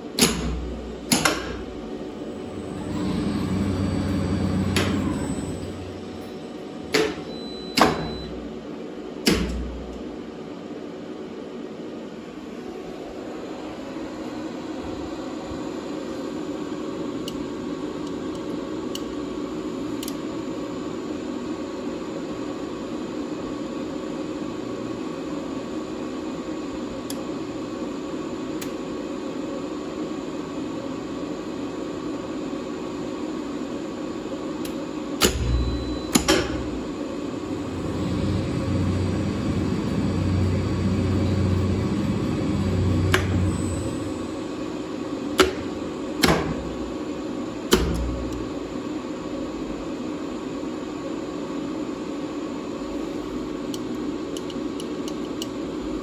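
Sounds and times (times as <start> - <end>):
electrical hum of lift controller: 0.0 - 56.0
lift motor running with low hum: 0.0 - 56.0.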